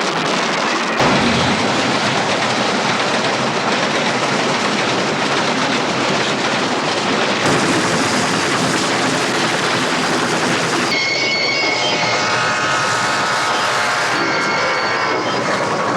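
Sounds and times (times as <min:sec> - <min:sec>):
train wheels rumbling on rails: 0:00.0 - 0:15.9
engine drone with steady tones: 0:01.0 - 0:15.9.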